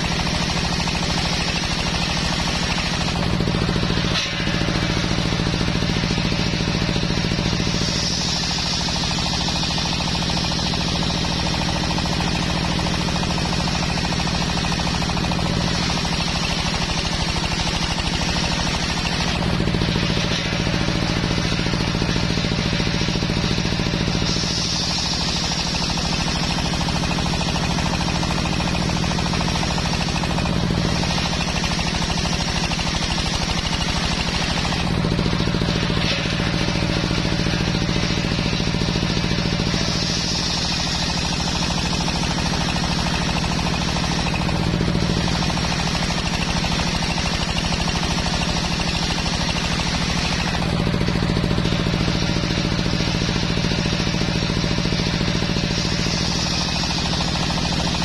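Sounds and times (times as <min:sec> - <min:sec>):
circular saw blade cutting wood: 0:00.0 - 0:58.0
saw drive humming: 0:00.0 - 0:58.0.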